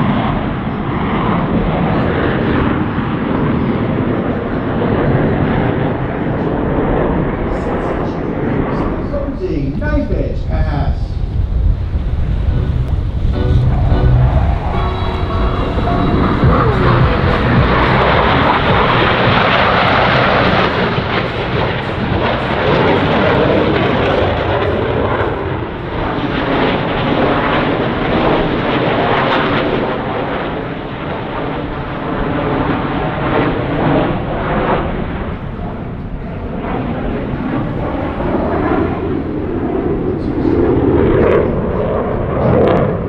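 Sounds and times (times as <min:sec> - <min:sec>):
aircraft engine rushing past: 0:00.0 - 0:43.0.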